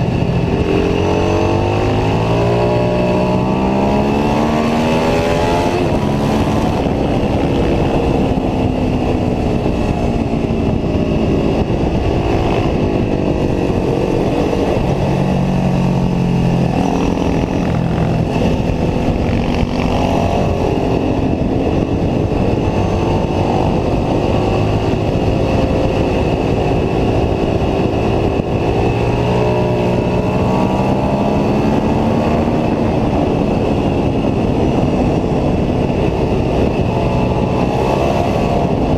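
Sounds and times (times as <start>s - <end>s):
motorcycle engine at speed: 0.0s - 38.9s
wind noise: 0.0s - 38.9s.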